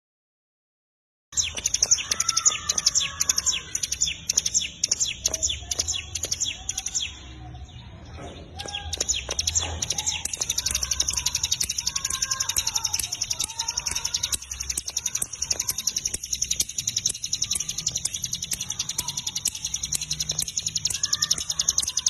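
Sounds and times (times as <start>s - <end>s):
bird singing high sharp notes: 1.3s - 22.0s.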